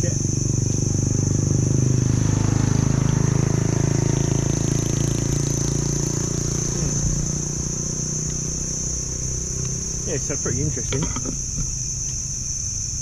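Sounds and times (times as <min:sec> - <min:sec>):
high insect buzz: 0:00.0 - 0:13.0
small engine running: 0:00.0 - 0:13.0.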